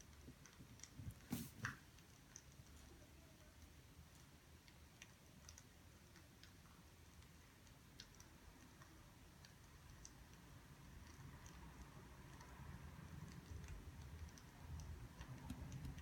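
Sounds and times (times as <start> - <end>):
low room hum: 0.0 - 16.0
soft irregular clicks: 0.0 - 16.0.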